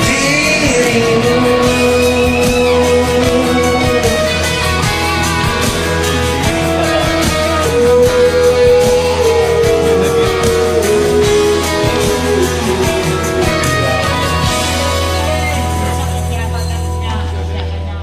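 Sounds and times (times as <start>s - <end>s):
guitar-led pop-rock backing track: 0.0s - 18.0s.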